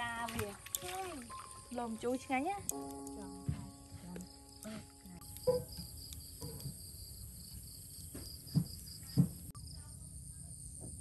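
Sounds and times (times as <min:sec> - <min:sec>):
high-pitched insect chorus trilling: 0:00.7 - 0:11.0.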